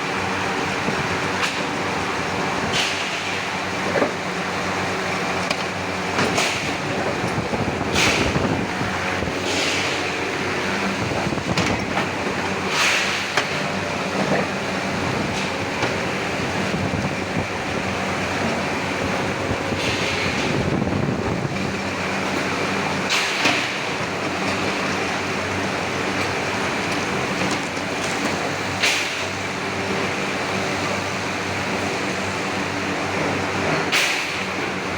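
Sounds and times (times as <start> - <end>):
machinery humming: 0.0 - 34.9.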